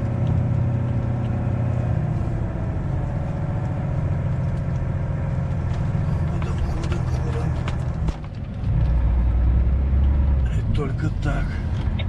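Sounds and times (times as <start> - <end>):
truck diesel engine under load: 0.0 - 12.0.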